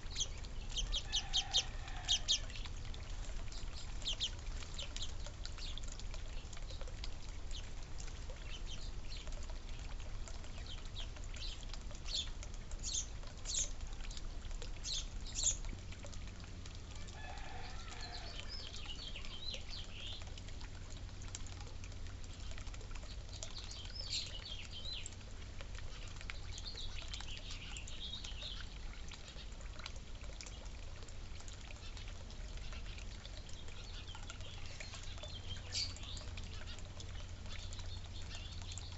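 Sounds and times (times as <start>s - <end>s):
small birds chirping: 0.0s - 15.8s, 17.0s - 38.9s.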